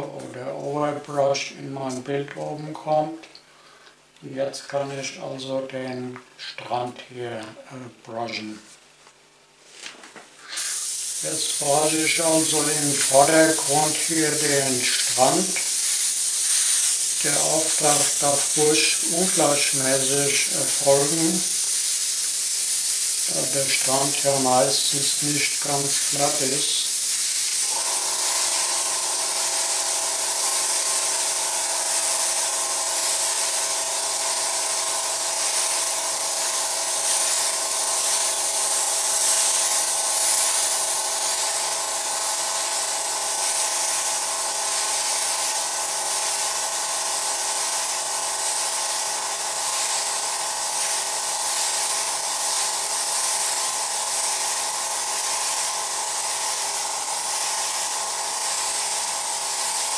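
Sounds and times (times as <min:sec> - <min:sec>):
air compressor humming: 0:10.3 - 0:59.9
airbrush spraying hiss: 0:10.4 - 0:59.9.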